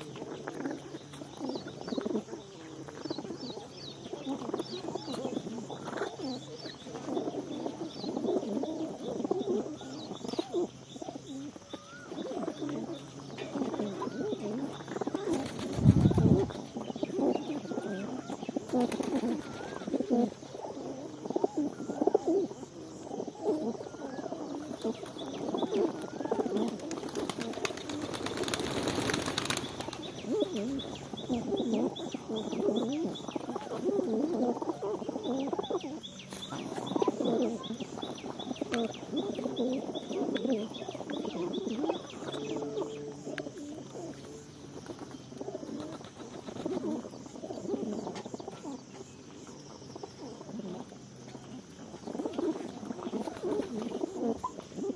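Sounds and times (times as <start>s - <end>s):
flock of birds calling: 0.0s - 54.9s.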